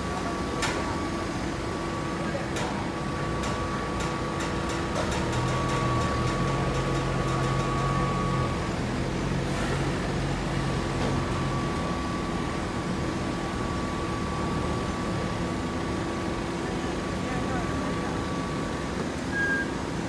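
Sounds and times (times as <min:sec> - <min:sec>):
machinery humming: 0:00.0 - 0:20.0.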